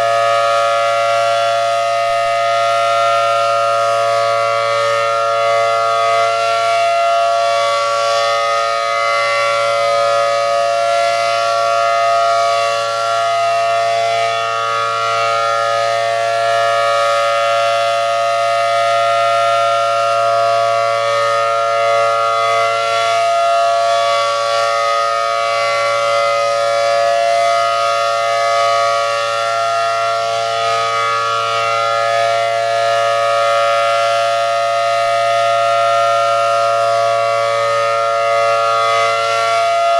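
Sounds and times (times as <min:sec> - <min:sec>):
warning siren two-note chord: 0:00.0 - 0:39.9.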